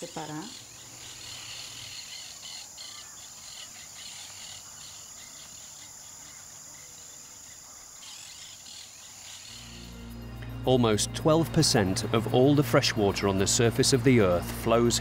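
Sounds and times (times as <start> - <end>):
insects buzzing high-pitched: 0.0 - 15.0
insects pulsed chirping: 0.0 - 15.0.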